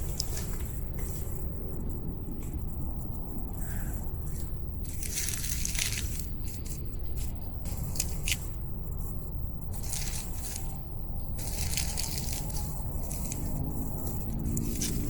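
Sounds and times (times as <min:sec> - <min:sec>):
crackling and rustling: 0:00.0 - 0:15.0
low background noise: 0:00.0 - 0:15.0.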